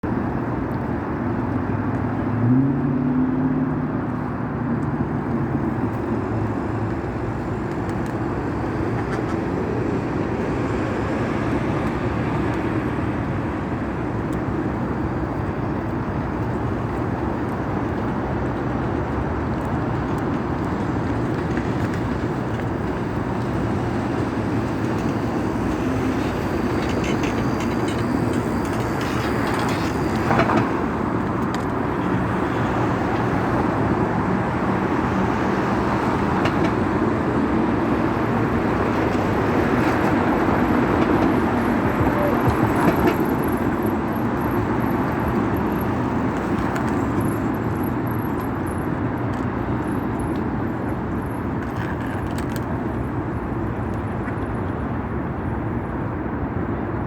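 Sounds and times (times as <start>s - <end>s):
vehicle rumbling in motion: 0.0s - 57.0s.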